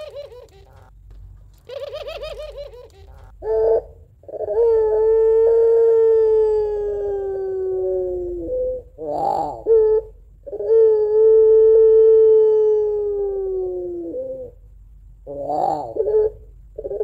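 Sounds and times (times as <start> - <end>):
dove cooing: 0.0 - 1.0, 1.6 - 17.0.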